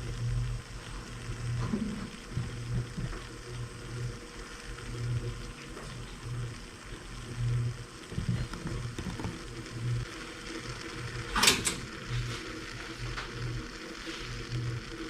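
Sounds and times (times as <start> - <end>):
coffee spurting hiss: 0.0 - 15.0
pulsing low hum: 0.0 - 15.0.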